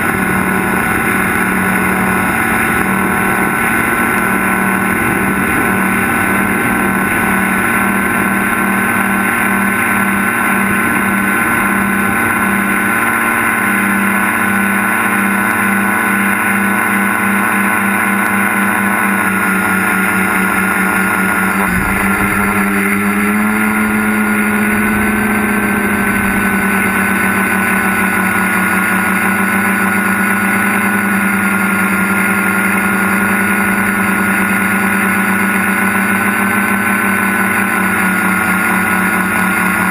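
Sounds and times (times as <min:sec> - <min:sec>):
drone motors and propellers: 0:00.0 - 0:39.9.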